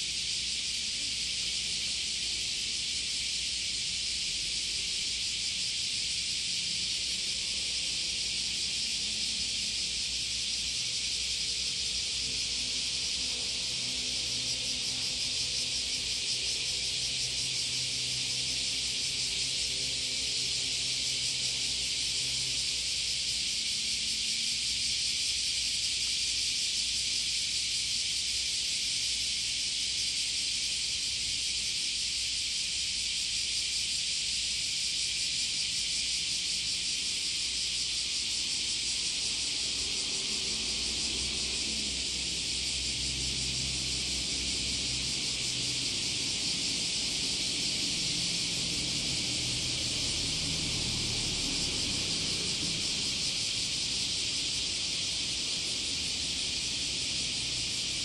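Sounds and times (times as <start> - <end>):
high-pitched hiss: 0.0 - 58.0.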